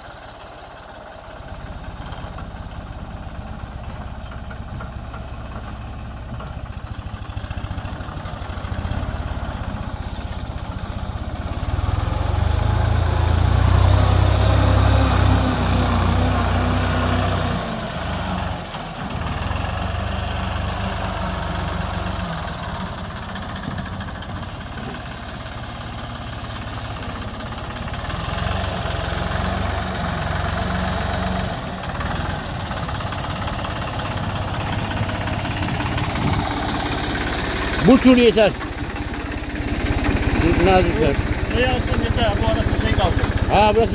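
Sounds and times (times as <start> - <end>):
tractor engine under load: 0.0 - 43.9.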